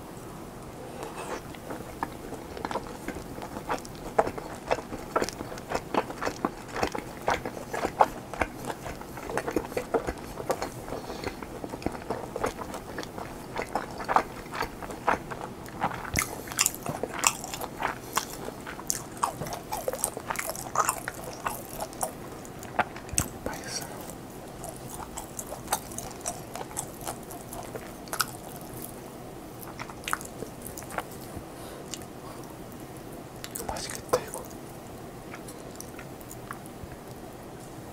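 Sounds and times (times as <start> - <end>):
chewing and biting food: 1.0 - 32.6, 35.2 - 37.2.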